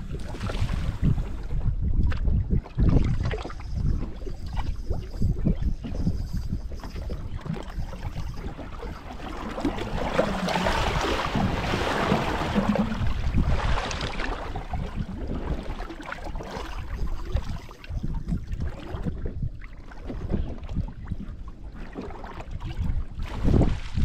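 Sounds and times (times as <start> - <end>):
water lapping at boat hull: 0.0 - 24.0
wind buffeting microphone: 0.0 - 24.0.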